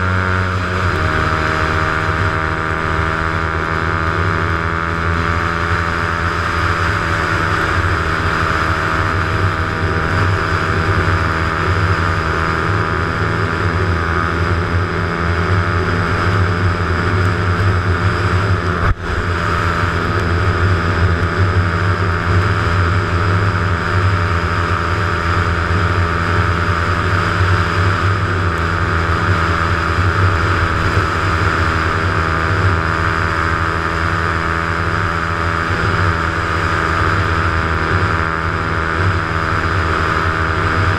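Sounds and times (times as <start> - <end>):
motorcycle engine running: 0.0 - 40.9
wind and tyre noise on wet road: 0.0 - 40.9.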